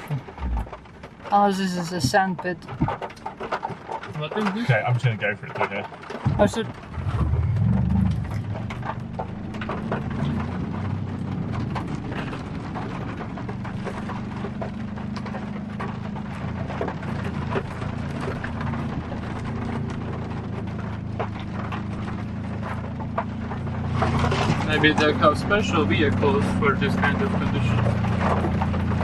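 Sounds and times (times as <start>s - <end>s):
small clicks and crackles: 0.0s - 29.0s
truck engine pulling under load: 2.7s - 29.0s.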